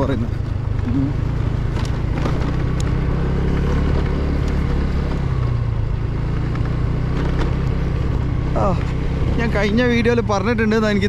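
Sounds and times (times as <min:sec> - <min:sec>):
scooter engine drone: 0:00.0 - 0:11.0.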